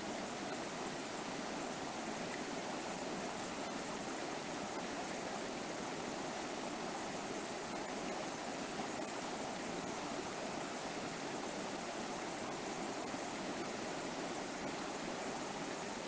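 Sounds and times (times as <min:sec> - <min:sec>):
river water flowing over rocks: 0:00.0 - 0:16.0.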